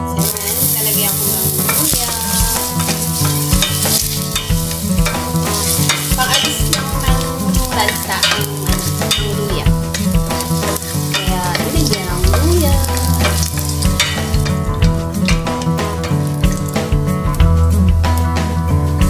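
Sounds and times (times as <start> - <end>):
food sizzling in hot oil: 0.0 - 18.9
wooden spatula scraping a pan: 0.1 - 16.8.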